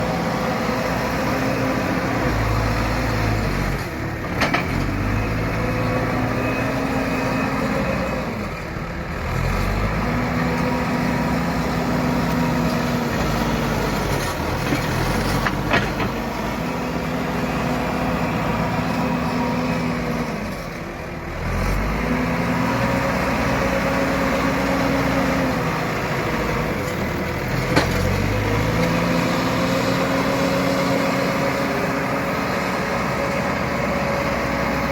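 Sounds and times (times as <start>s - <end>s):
excavator diesel engine under load: 0.0s - 34.9s.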